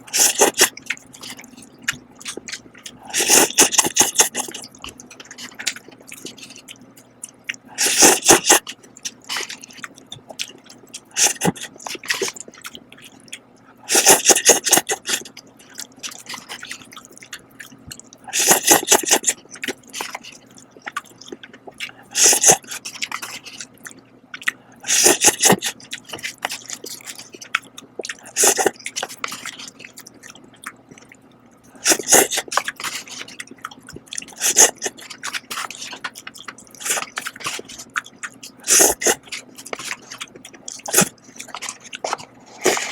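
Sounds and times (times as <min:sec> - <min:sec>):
noodles slurped: 0:00.0 - 0:06.8, 0:07.7 - 0:13.2, 0:13.9 - 0:23.8, 0:24.8 - 0:31.1, 0:31.7 - 0:42.9
chewing: 0:00.0 - 0:42.9.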